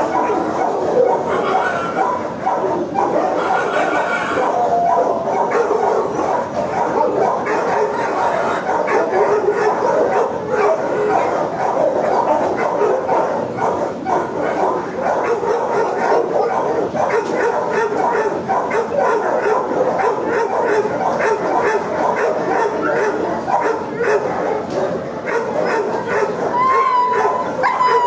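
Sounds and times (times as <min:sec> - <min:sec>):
many dogs barking and yipping: 0:00.0 - 0:28.0.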